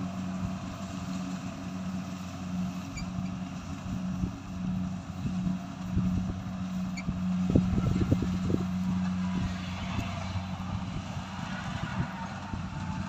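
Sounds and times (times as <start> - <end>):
combine harvester engine humming: 0.0 - 13.0.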